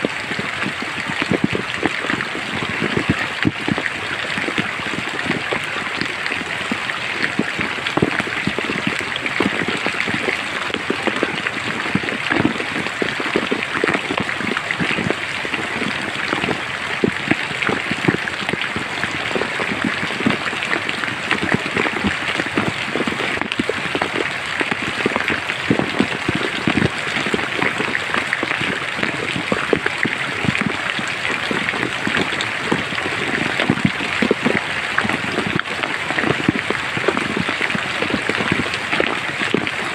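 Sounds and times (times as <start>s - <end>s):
rain hissing in forest: 0.0s - 39.9s
raindrops striking close by: 0.0s - 39.9s.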